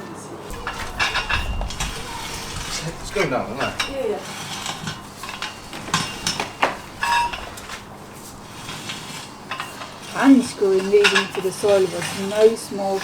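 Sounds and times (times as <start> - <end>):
metal screw clinking and scraping: 0.5 - 13.0.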